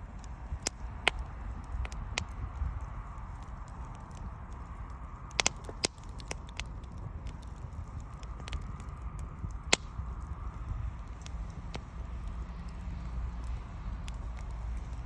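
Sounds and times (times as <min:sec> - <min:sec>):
bonfire crackling and popping: 0:00.0 - 0:15.0
low steady rumble: 0:00.0 - 0:15.0.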